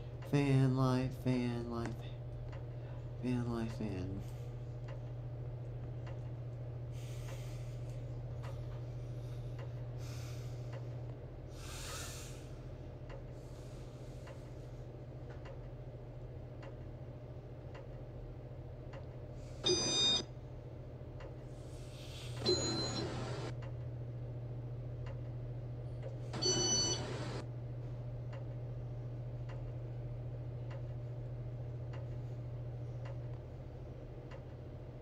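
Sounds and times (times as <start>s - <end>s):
ceiling fan motor humming: 0.0s - 35.0s.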